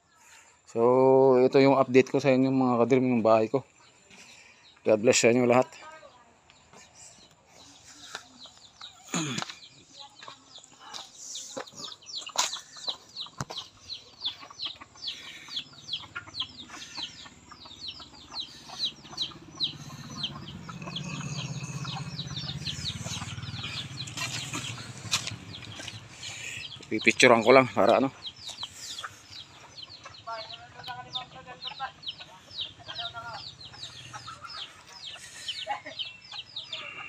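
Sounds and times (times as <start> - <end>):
bird chirping: 0.0 - 37.0.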